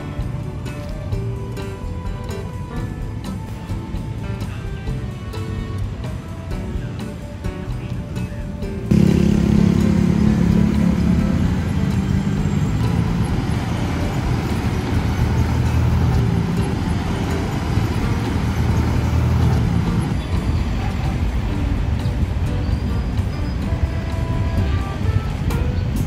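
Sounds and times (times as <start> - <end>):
quiet background music: 0.0 - 26.0
road traffic engine hum: 0.0 - 26.0.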